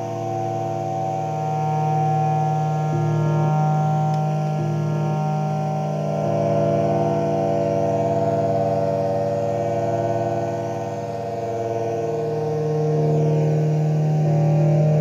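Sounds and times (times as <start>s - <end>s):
buzzing drone of held tones: 0.0s - 15.0s.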